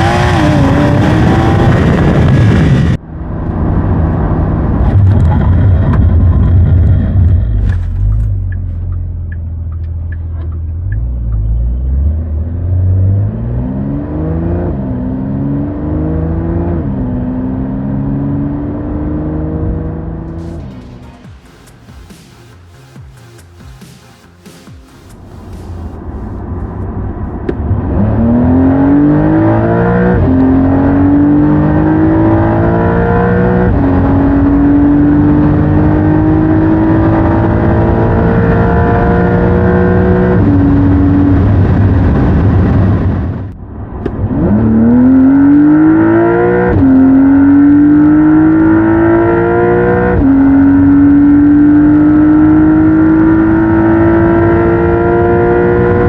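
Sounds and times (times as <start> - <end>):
car engine accelerating hard: 0.0 - 21.7, 25.2 - 56.0.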